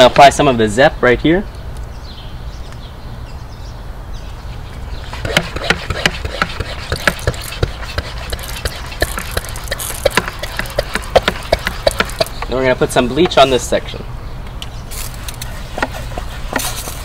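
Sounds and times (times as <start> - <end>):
steady low hum: 1.7 - 17.0.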